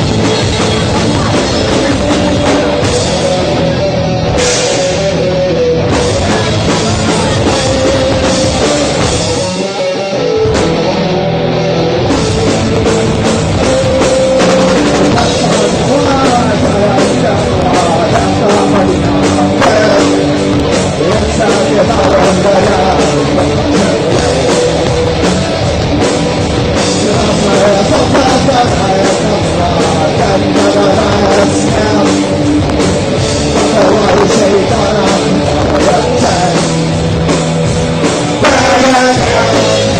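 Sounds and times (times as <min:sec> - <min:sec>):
drum kit: 0:00.0 - 0:39.9
rock band playing loudly: 0:00.0 - 0:39.9.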